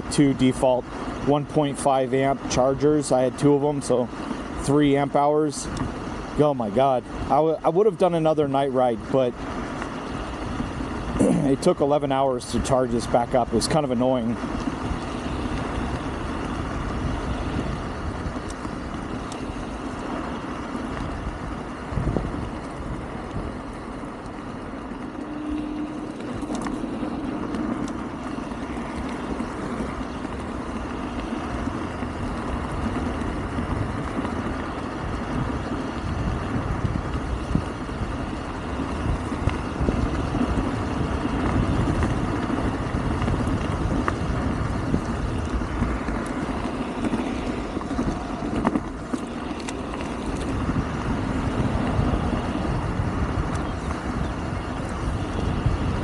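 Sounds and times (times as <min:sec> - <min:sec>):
wind and road rumble: 0:00.0 - 0:56.0.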